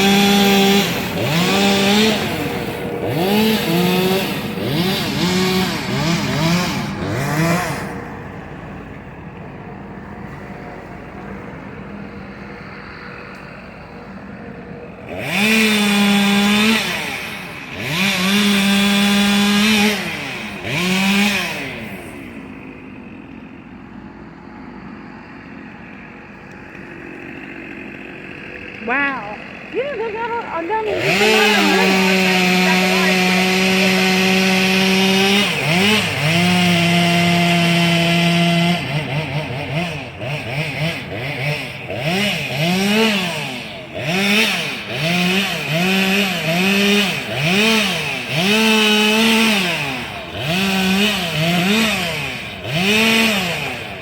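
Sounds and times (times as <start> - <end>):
chainsaw revving: 0.0 - 9.6, 10.2 - 54.0.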